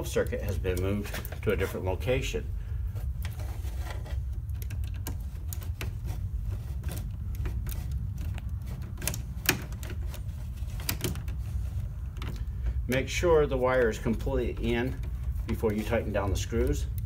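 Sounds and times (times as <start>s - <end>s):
wires clicking against metal panel: 0.0s - 17.0s.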